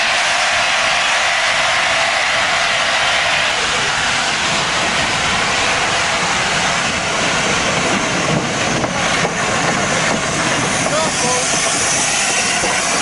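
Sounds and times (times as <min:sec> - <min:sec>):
locomotive steam hissing: 0:00.0 - 0:13.0.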